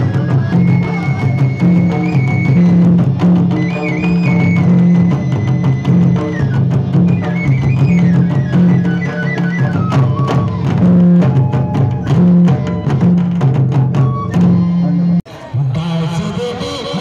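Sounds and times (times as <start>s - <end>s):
large drums beating: 0.0s - 14.9s
wind instrument melody: 0.0s - 17.0s.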